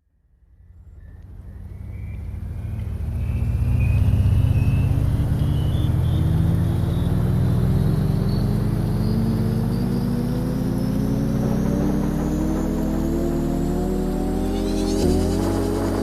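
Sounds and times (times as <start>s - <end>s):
vehicle engine speeding up: 0.7s - 16.0s.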